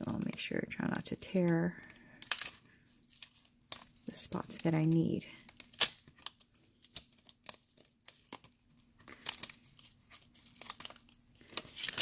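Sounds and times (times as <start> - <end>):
vinyl film peeling crackles: 0.0 - 12.0.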